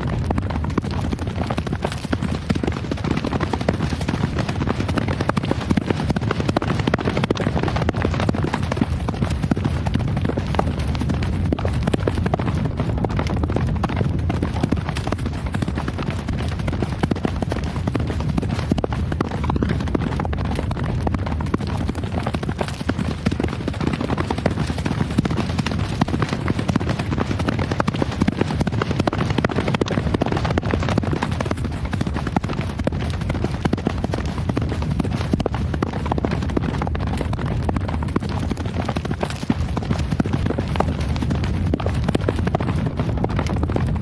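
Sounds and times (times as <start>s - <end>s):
horse hooves galloping: 0.0s - 44.0s.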